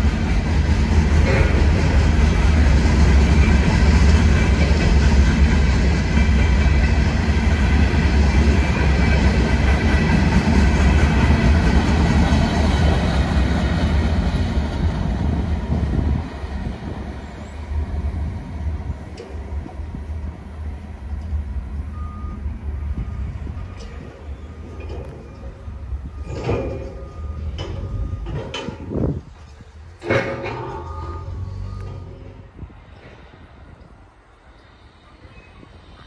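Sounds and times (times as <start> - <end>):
high ringing from train wheels: 0.0 - 34.5
freight train wheels rumbling: 0.0 - 36.0.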